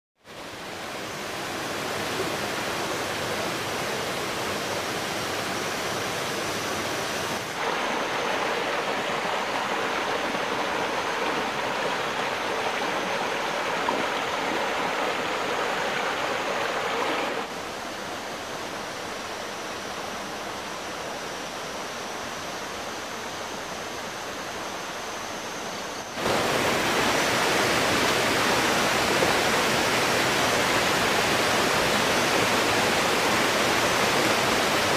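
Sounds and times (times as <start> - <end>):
waterfall rushing: 0.3 - 20.8, 26.1 - 34.9.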